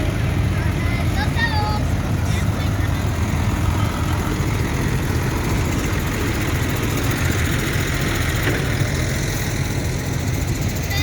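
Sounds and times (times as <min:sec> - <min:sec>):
tractor engines running at low revs: 0:00.0 - 0:11.0.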